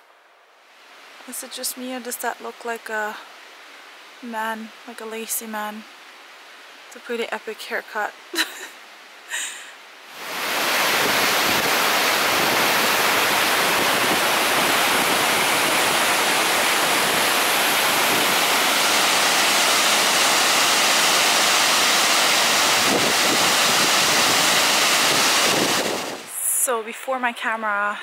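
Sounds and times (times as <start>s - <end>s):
waterfall and rapids rushing: 0.0s - 27.2s.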